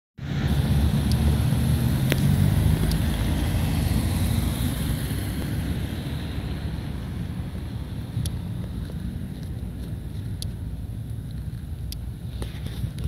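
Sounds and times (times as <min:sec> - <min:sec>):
cars driving past: 0:00.2 - 0:13.0.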